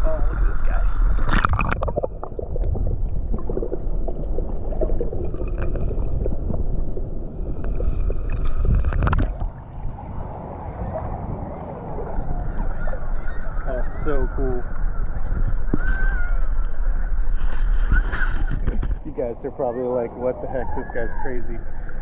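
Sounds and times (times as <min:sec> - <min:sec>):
shallow water sloshing: 0:00.0 - 0:22.0
water splashing: 0:00.0 - 0:22.0
wind rumbling on microphone: 0:00.0 - 0:22.0.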